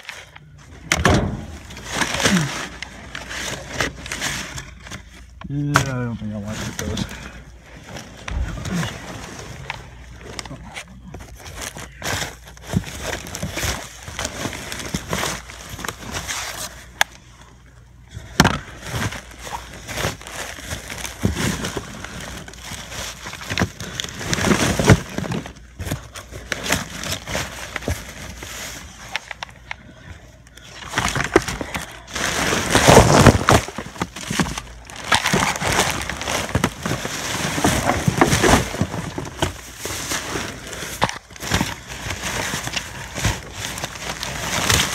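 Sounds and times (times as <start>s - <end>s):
cardboard and rubbish scraping: 0.0s - 16.9s, 18.4s - 29.6s, 30.8s - 44.9s
plastic trash bags crinkling: 0.0s - 17.2s, 18.1s - 44.9s.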